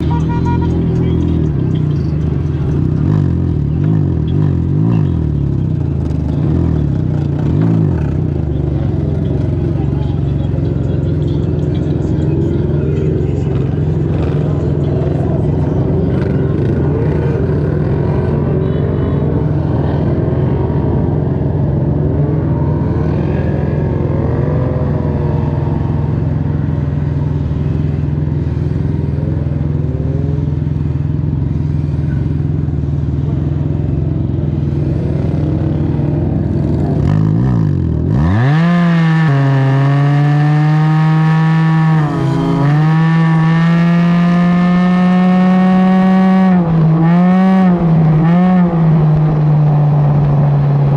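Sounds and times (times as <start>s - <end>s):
motorcycle engine rumbling and revving: 0.0s - 50.9s.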